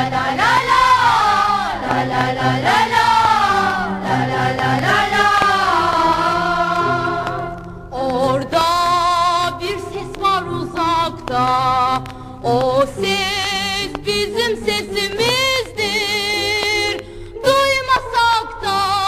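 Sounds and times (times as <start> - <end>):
low musical accompaniment: 0.0 - 19.0.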